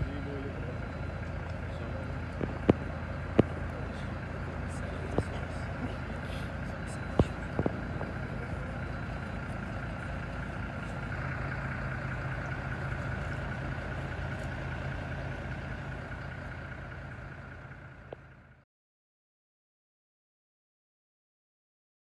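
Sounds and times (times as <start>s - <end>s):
engine idling with whine: 0.0s - 18.6s.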